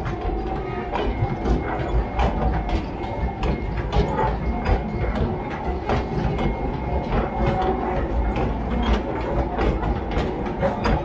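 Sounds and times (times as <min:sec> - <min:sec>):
train wagons clattering: 0:00.0 - 0:11.0.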